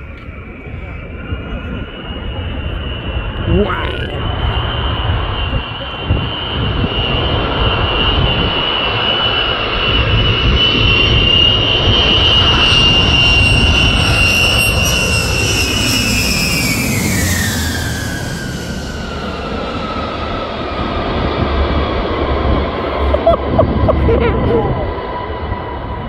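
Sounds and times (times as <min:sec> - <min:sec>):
jet engines screaming overhead: 0:00.0 - 0:26.0.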